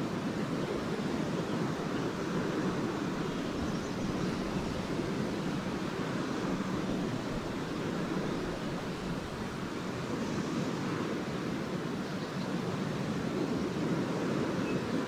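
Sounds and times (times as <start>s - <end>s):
small waves washing onto beach: 0.0s - 15.0s.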